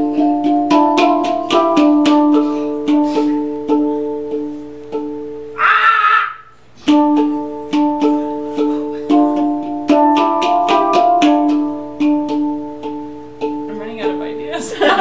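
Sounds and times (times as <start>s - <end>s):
handpan notes ringing: 0.0s - 5.6s, 6.8s - 15.0s.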